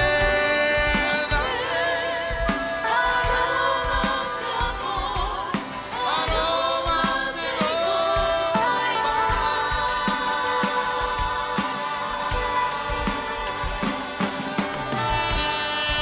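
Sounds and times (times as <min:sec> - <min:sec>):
keyboard: 0:00.0 - 0:16.0
steady drum beat: 0:00.0 - 0:16.0
voices singing long wavering notes: 0:00.0 - 0:16.0.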